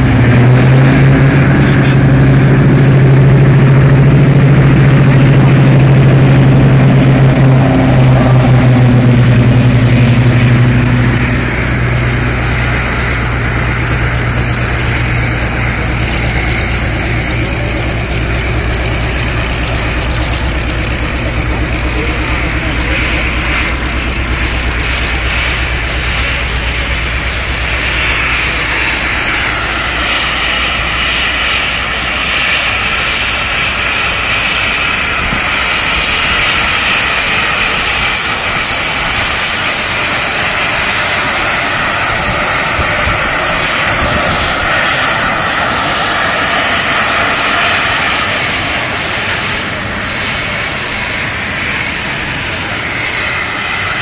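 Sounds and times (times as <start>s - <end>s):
jet engines whining: 0.0s - 54.0s
piston engine rumble: 0.0s - 54.0s.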